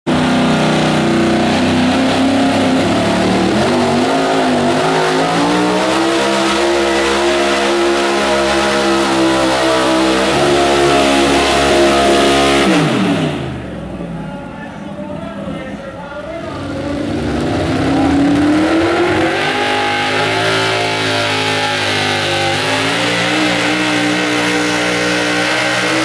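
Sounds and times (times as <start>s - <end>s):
truck engine at full throttle: 0.0s - 26.0s.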